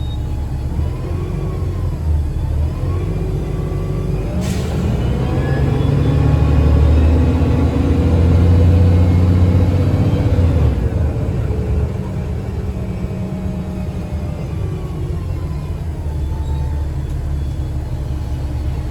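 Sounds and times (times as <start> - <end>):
bus engine rumbling: 0.0 - 18.9.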